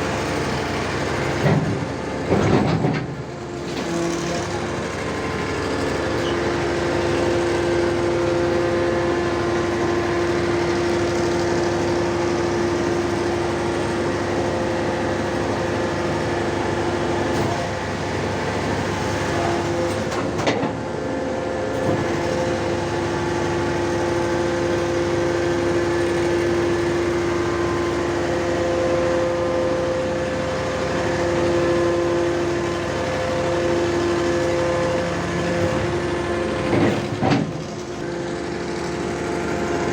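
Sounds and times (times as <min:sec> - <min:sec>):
pile driver engine and pump whine: 0:00.0 - 0:39.9.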